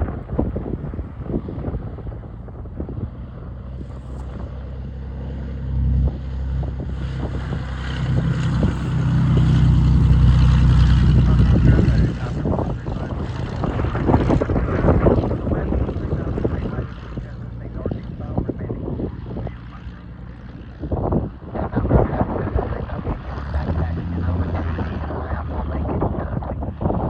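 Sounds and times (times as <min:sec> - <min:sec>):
propeller plane engine droning: 0:00.0 - 0:27.0
wind buffeting microphone: 0:00.0 - 0:27.0.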